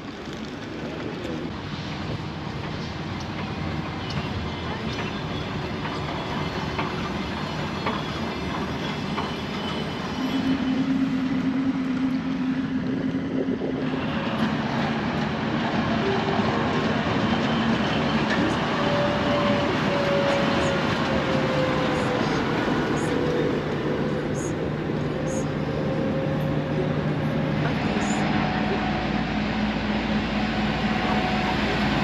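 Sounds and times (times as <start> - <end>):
locomotive engines droning: 0.0 - 32.0
train wheels on rails: 0.0 - 32.0.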